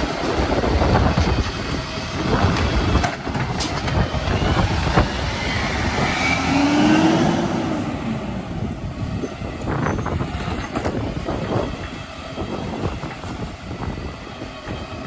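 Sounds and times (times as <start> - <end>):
garbage truck working: 0.0 - 15.0
wind buffeting microphone: 0.0 - 15.0.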